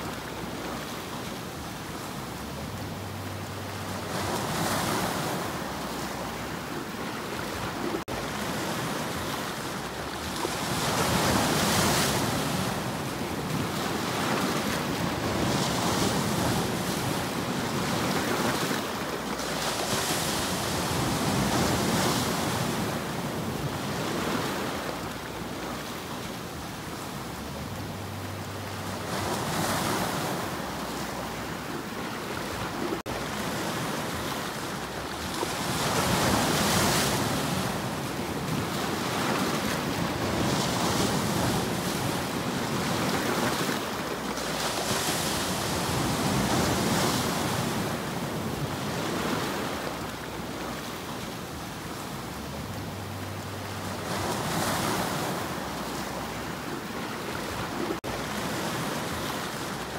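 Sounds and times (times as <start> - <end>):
waves splashing over rocks: 0.0 - 59.9.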